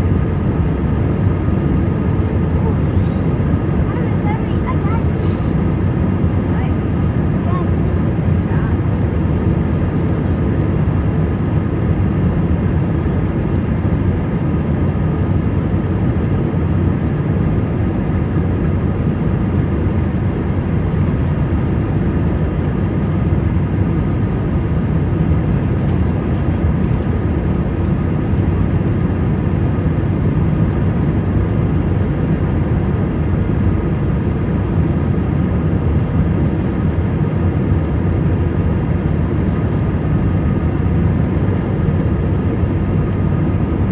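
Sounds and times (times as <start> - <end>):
jet engine drone: 0.0 - 43.9.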